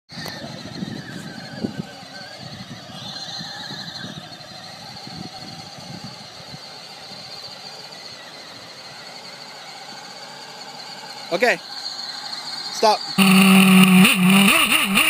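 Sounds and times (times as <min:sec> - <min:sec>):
electric motor whine: 0:00.1 - 0:15.0
wheels rumbling on sand: 0:00.1 - 0:15.0.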